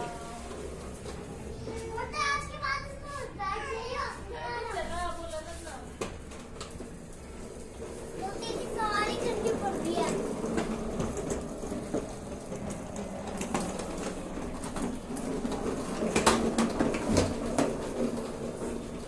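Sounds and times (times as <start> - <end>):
plastic wheels rolling on hard floor: 0.0 - 19.0.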